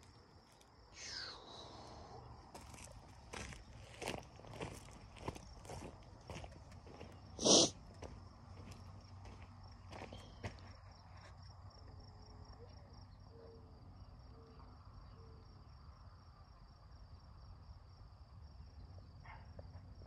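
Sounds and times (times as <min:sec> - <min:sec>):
faint crickets chirping: 0:00.0 - 0:20.0.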